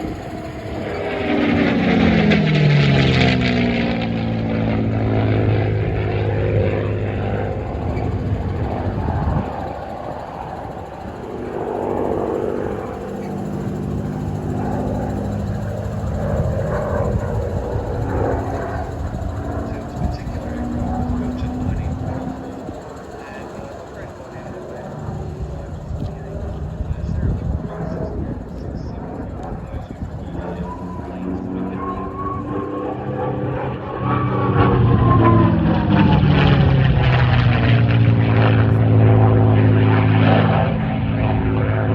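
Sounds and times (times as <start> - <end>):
aircraft engine droning: 0.0 - 41.9.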